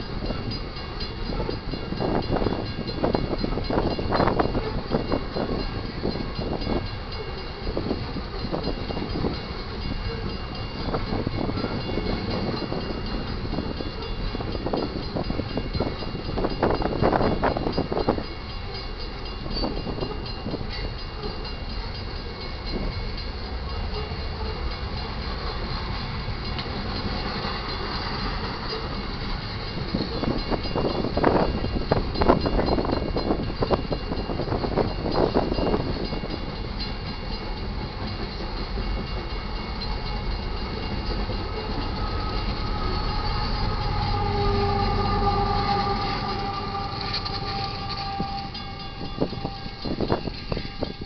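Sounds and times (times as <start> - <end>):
train wheels rumbling on rail: 0.0 - 51.0
wheels clicking over rail joints: 0.0 - 51.0.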